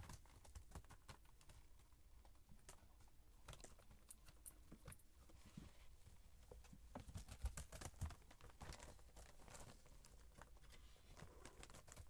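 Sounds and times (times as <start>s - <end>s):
kittens' paws scratching carpet: 0.0s - 12.0s.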